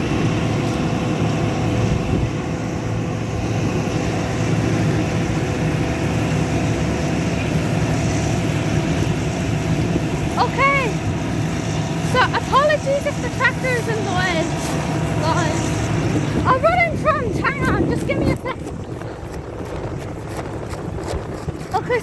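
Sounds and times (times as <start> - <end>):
combine harvester engine drone: 0.0 - 22.0
thin steady whine: 0.0 - 22.0.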